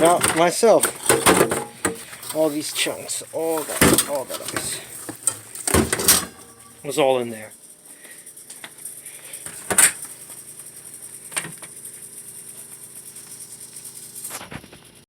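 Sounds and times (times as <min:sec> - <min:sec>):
steady faint hum: 0:00.0 - 0:13.5.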